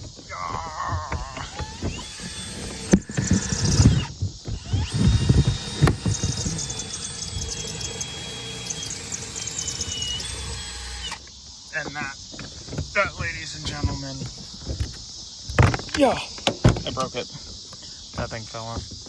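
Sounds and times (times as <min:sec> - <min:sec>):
clips popping: 0:00.0 - 0:13.0, 0:13.7 - 0:17.3
plastic panel creaking and squealing: 0:00.0 - 0:19.0.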